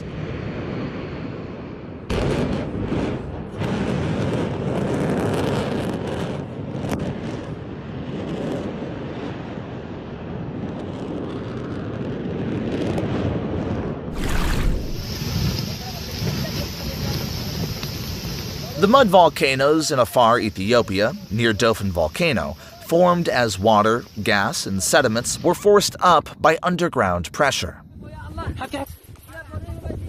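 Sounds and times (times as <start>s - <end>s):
volcano roaring with sharp bursts: 0.0s - 26.4s.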